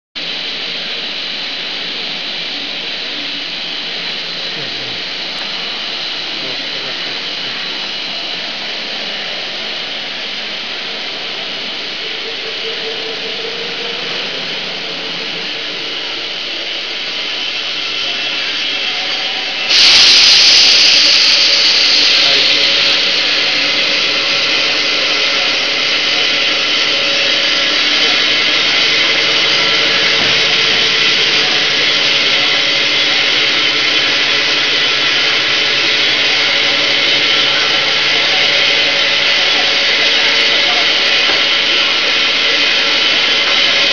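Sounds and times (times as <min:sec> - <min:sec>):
factory machinery hissing din: 0:00.2 - 0:43.9
strong high hiss: 0:00.2 - 0:43.9.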